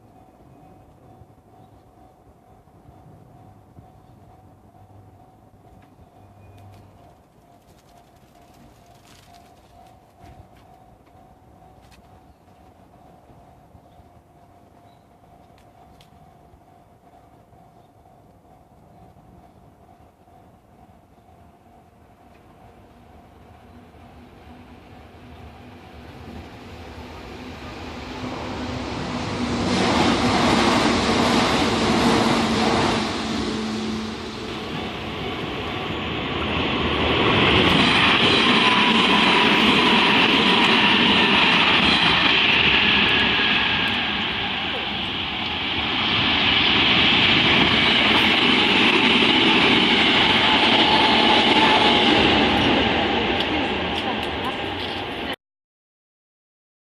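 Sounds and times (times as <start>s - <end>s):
train wheels rumbling on rails: 0.0s - 55.4s.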